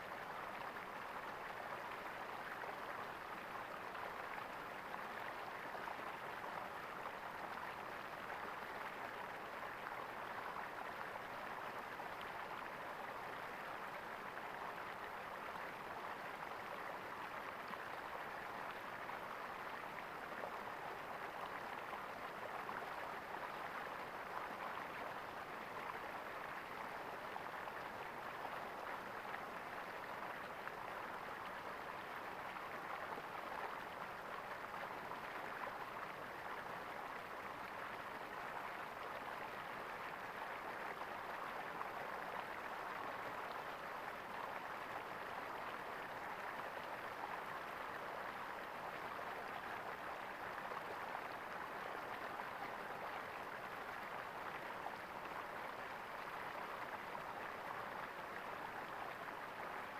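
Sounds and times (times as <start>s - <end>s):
stream water gurgling: 0.0s - 59.9s.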